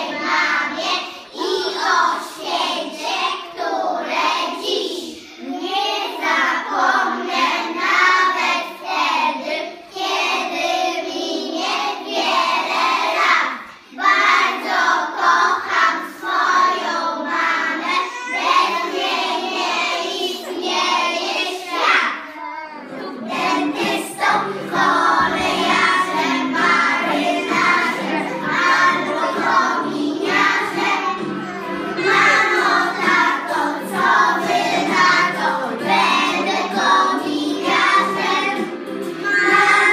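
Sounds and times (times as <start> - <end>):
children singing together: 0.0 - 39.9.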